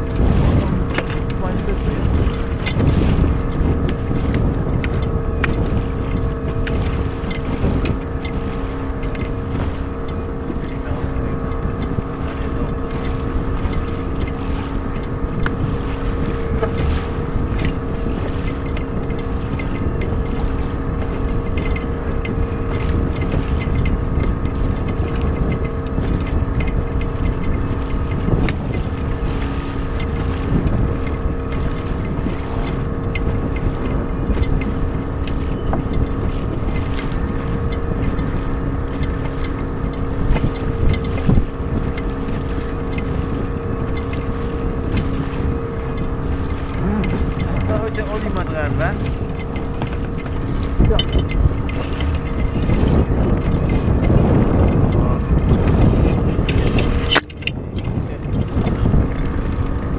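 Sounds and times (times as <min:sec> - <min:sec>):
outboard motor running: 0:00.0 - 0:59.9
wind buffeting microphone: 0:00.0 - 0:59.9.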